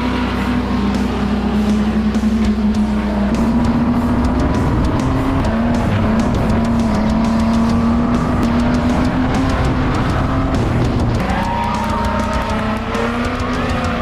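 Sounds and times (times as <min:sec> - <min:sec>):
music playing: 0:00.0 - 0:14.0
race car engines droning: 0:00.0 - 0:14.0.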